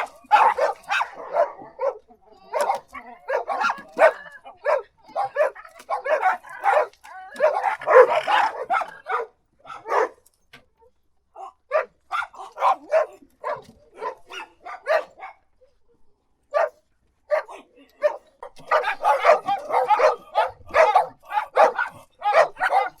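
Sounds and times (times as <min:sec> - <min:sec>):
dog barking: 0:00.0 - 0:10.2, 0:11.4 - 0:15.8, 0:16.5 - 0:23.0.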